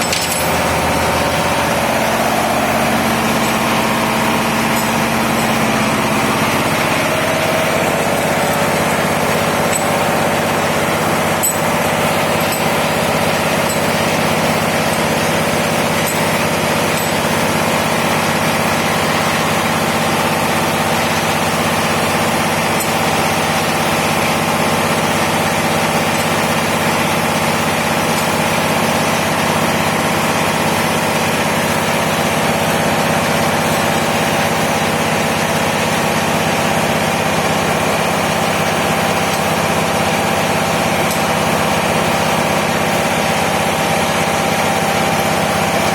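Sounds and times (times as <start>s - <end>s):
engine droning steadily: 0.0s - 45.9s.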